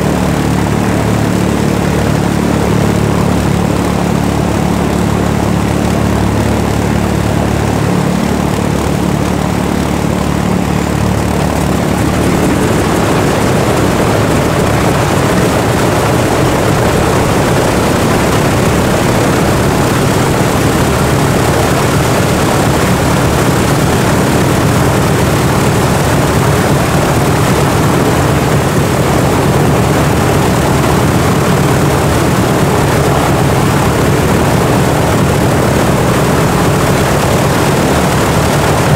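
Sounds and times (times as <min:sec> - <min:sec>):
radial aircraft engines running: 0:00.0 - 0:38.9.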